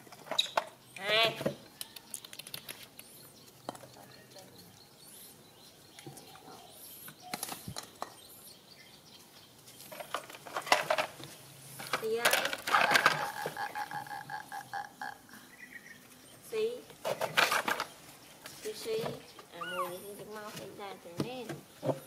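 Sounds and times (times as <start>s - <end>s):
small birds chirping: 0.1s - 10.6s, 11.2s - 22.0s.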